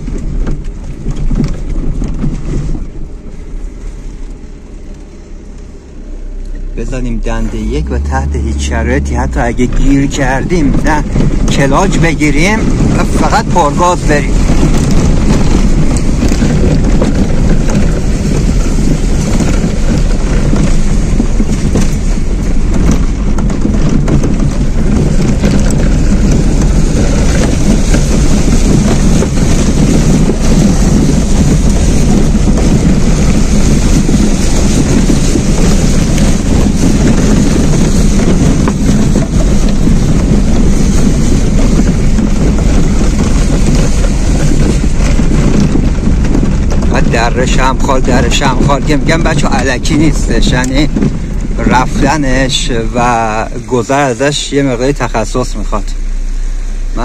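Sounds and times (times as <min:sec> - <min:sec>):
car engine at full throttle: 0:00.0 - 0:57.0
water rushing and splashing: 0:06.5 - 0:57.0.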